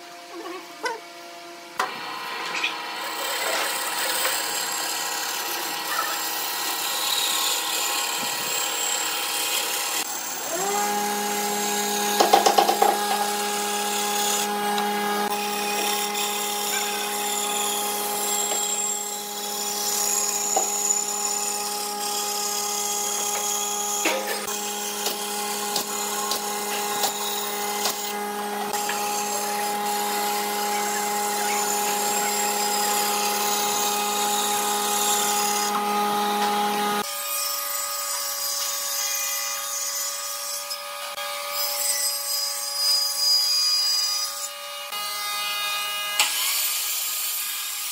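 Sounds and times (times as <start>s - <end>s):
band saw cutting wood: 1.8s - 47.9s.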